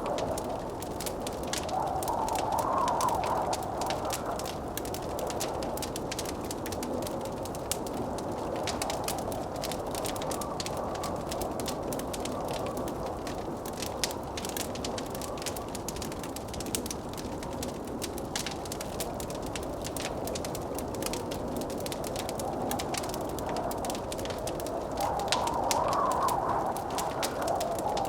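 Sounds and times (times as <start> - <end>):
blizzard wind rushing: 0.0 - 15.7, 20.4 - 28.0
wood fire crackling: 0.0 - 28.0.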